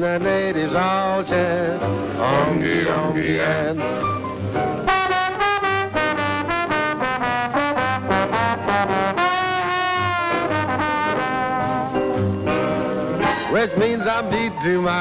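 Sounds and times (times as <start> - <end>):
bass line: 0.1 - 15.0
trombone solo: 2.1 - 15.0.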